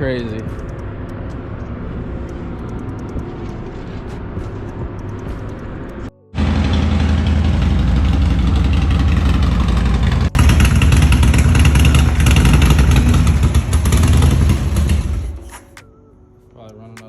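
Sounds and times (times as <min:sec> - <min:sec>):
motorcycle engine running: 0:00.5 - 0:15.6.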